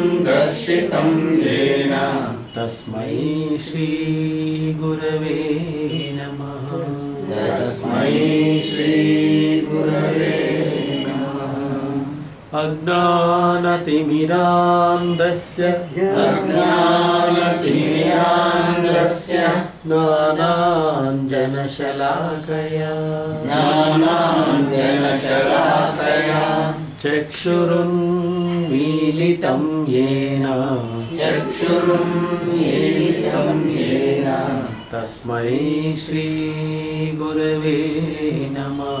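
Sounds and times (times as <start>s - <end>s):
person chanting verses: 0.0s - 39.0s.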